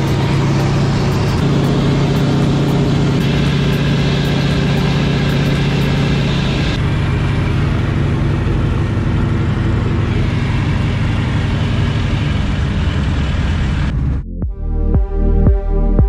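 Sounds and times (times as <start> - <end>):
radial aircraft engine and propeller: 0.0 - 14.2.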